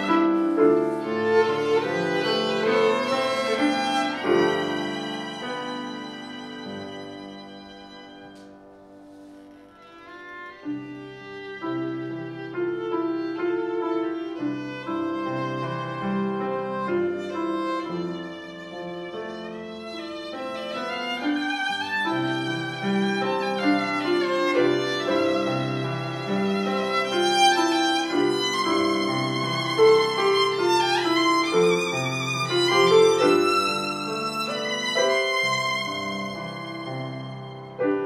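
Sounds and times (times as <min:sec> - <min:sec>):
grand piano: 0:00.0 - 0:38.0
violin melody with vibrato: 0:00.0 - 0:38.0.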